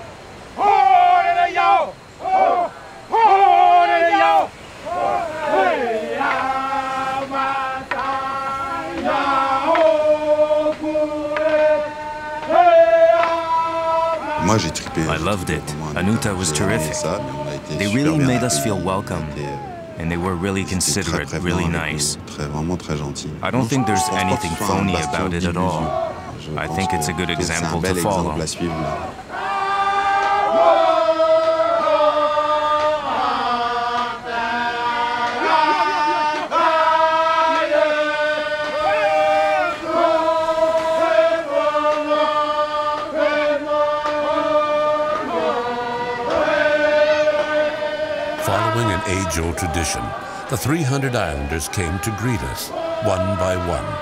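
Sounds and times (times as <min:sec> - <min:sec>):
voices chanting in unison: 0:00.0 - 0:54.0.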